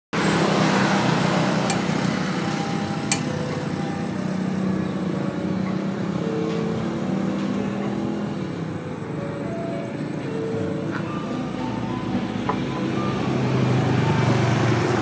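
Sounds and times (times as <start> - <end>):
engine hum: 0.2 - 15.0.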